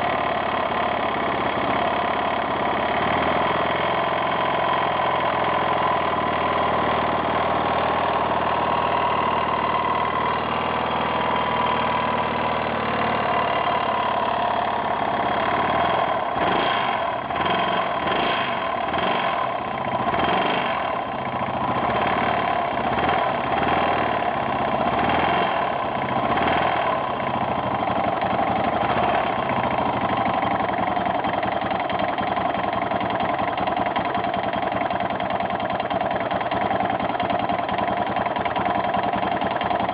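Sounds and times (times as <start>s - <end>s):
engine knocking: 0.0s - 39.9s
motorcycle engine idling and revving: 0.0s - 39.9s.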